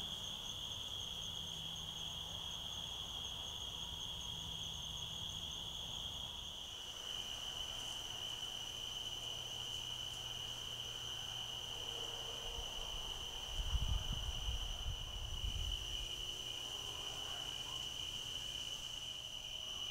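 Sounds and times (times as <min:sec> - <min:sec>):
crickets trilling: 0:00.0 - 0:19.9.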